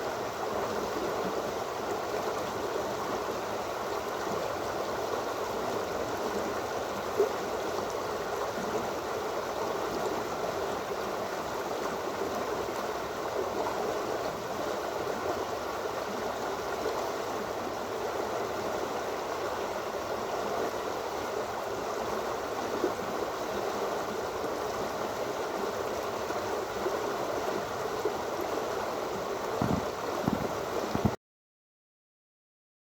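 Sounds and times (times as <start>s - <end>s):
floodwater rushing: 0.4s - 31.2s.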